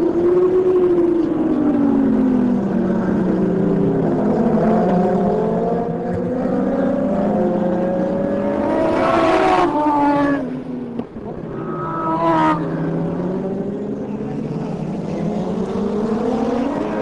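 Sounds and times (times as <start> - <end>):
racing motorcycles accelerating: 0.0 - 17.0.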